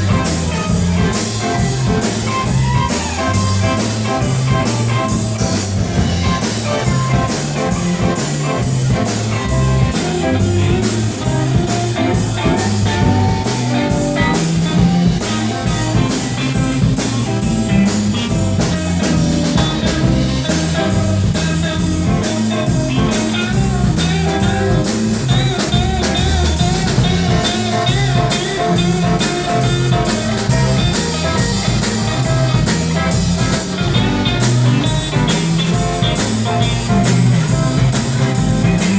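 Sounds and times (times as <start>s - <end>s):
bass guitar: 0.0s - 38.9s
drum kit cymbal beat: 0.0s - 38.9s
electric guitar: 0.0s - 38.9s.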